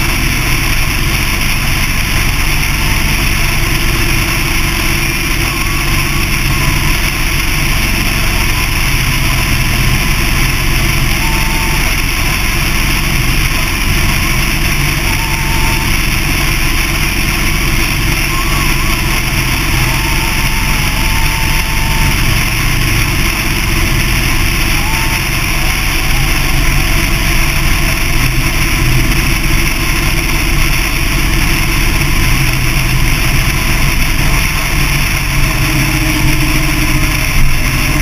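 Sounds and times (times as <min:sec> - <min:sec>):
motorcycle engine drone: 0:00.0 - 0:38.0.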